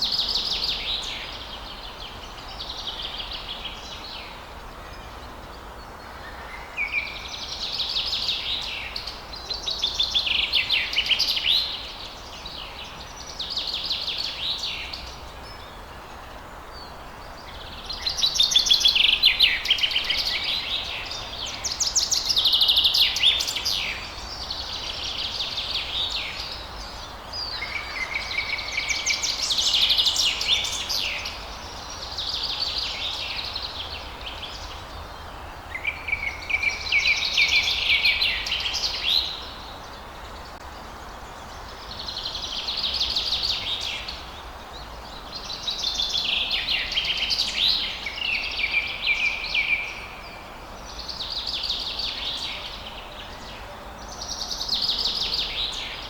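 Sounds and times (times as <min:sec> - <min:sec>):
background hiss: 0:00.0 - 0:56.0
songbirds singing: 0:00.0 - 0:56.0.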